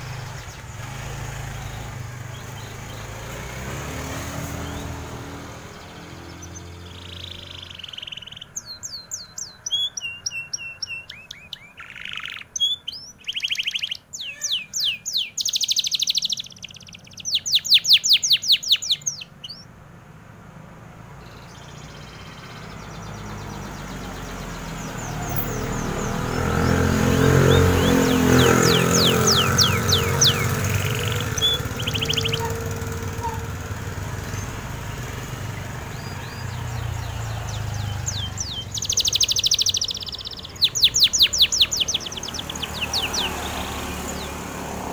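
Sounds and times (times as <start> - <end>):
canary singing trills: 0.0 - 19.8, 21.1 - 44.9.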